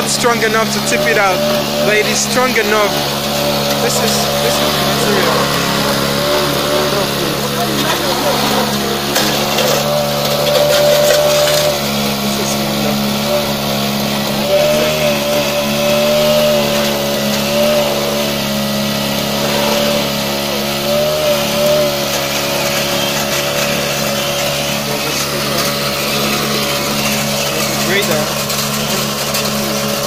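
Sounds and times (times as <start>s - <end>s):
small excavator motor running: 0.0s - 30.0s.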